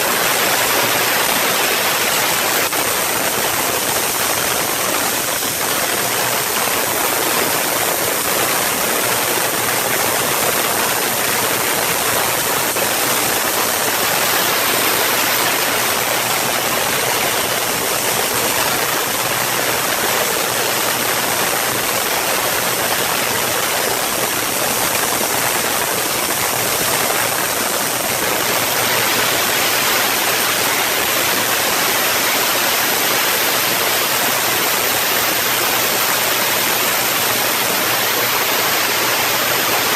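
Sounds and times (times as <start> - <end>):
rain-like hiss: 0.0 - 39.9.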